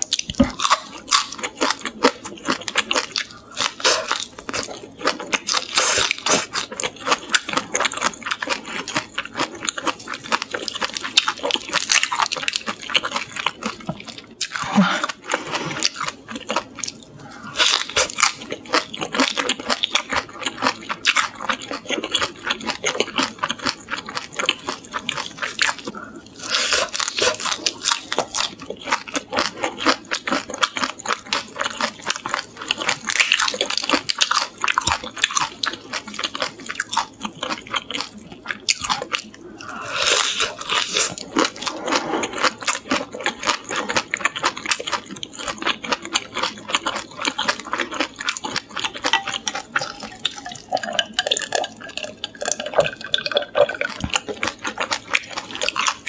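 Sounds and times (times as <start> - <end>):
crunching and chewing shrimp shells: 0.0 - 56.0.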